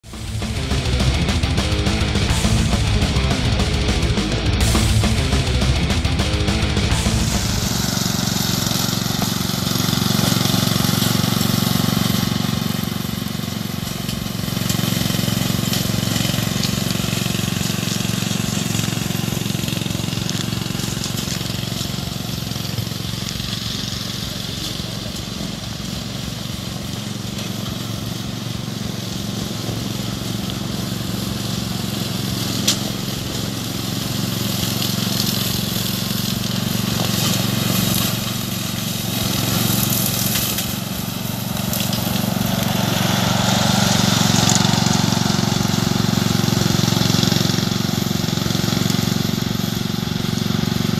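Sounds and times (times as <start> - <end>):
ride-on mower engine running: 0.0 - 50.9.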